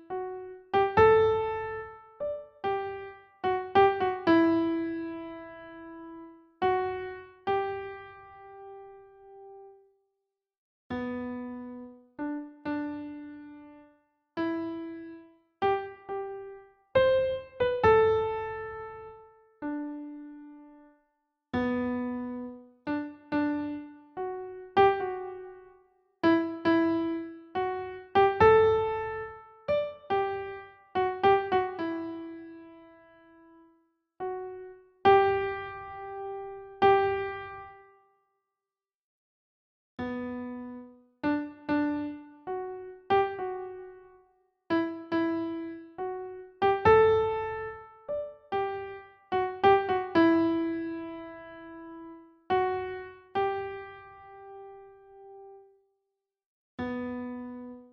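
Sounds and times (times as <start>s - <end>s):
gentle piano melody: 0.0s - 9.8s, 10.9s - 21.0s, 21.6s - 38.0s, 40.0s - 55.7s, 56.8s - 57.9s.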